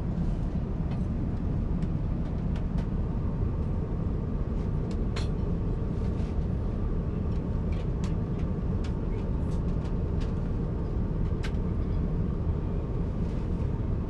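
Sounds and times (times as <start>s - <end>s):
airplane cabin low rumble: 0.0s - 14.0s.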